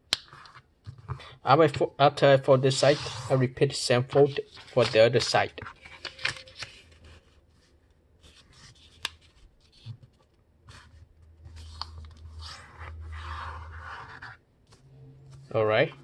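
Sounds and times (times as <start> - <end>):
paper folding and creasing: 2.7 - 16.0
rubbing paper crease: 2.7 - 16.0.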